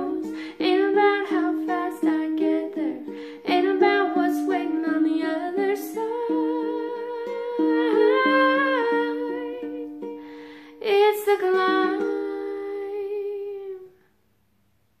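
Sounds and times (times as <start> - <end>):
woman singing: 0.0 - 10.1, 10.7 - 14.0
fingerpicked ukulele: 0.0 - 14.0.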